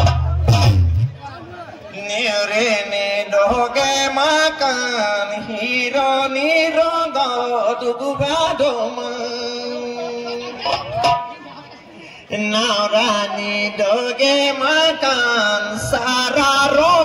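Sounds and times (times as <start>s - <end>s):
man chanting over loudspeaker: 1.1s - 11.4s, 12.0s - 17.0s.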